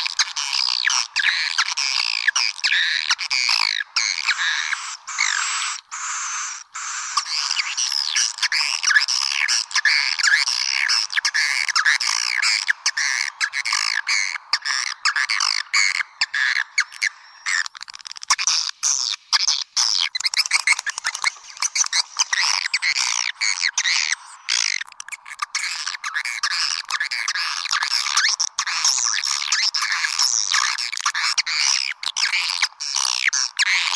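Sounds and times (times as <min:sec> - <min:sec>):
birds twittering chirps: 0:00.0 - 0:33.9.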